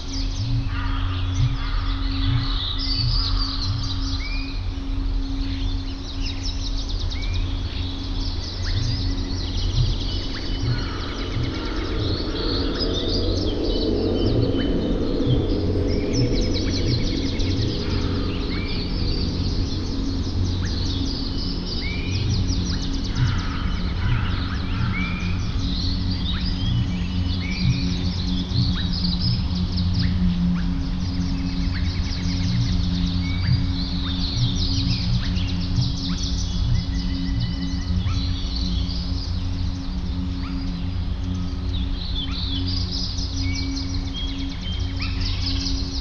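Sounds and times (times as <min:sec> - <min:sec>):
low rumble: 0:00.0 - 0:46.0
wild birds singing and calling: 0:00.0 - 0:46.0.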